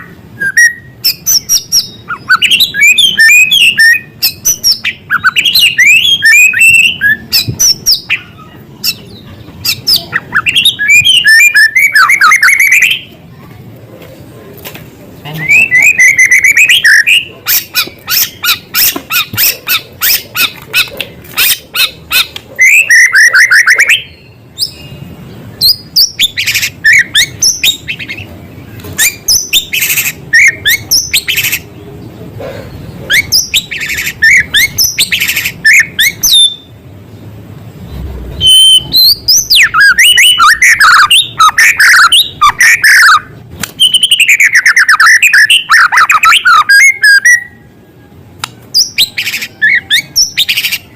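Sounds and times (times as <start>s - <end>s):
songbird singing trills and whistles: 0.0s - 13.2s, 15.3s - 28.3s, 29.0s - 31.7s, 32.6s - 36.8s, 37.9s - 50.9s.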